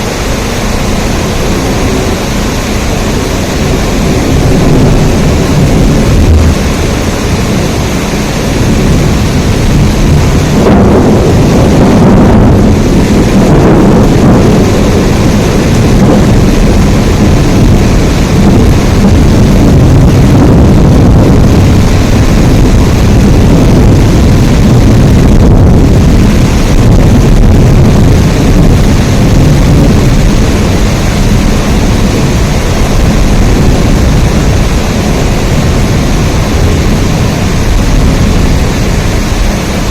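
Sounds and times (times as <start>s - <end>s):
heavy rain: 0.0s - 39.9s
thunder rumble: 0.0s - 39.9s.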